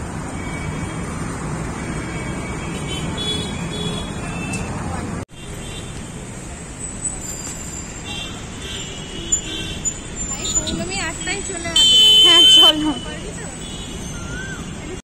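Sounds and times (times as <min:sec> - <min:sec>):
traffic passing: 0:00.0 - 0:15.0.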